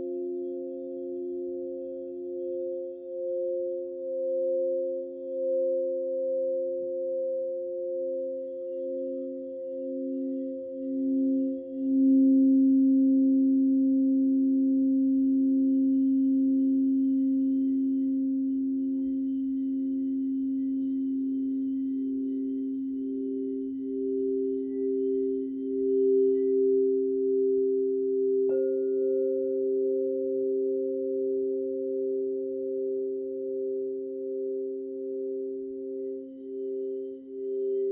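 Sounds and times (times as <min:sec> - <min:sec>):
bowl struck: 0:00.0 - 0:37.9
crystal singing bowls ringing: 0:00.0 - 0:37.9.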